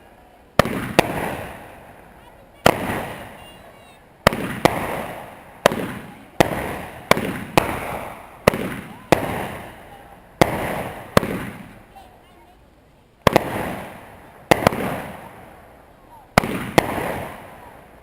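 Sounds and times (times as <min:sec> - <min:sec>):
fireworks banging: 0:00.0 - 0:18.0
fireworks hissing: 0:00.0 - 0:18.0.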